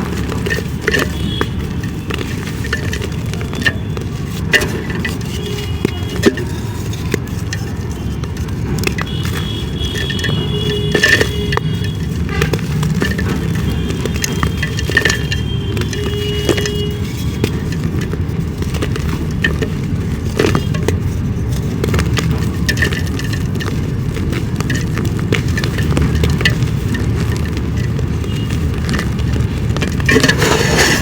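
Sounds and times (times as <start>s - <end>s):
dry clay crumbling and cracking: 0.0s - 31.0s.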